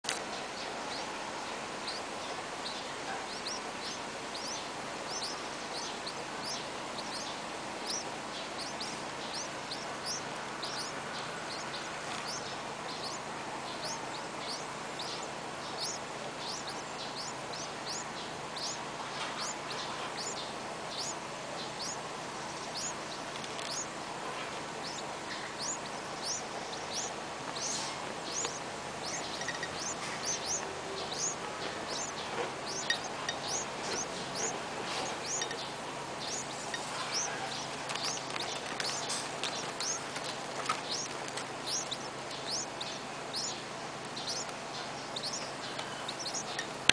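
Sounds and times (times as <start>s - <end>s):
steady background noise: 0.0s - 46.9s
nestlings begging peeps: 0.1s - 46.9s.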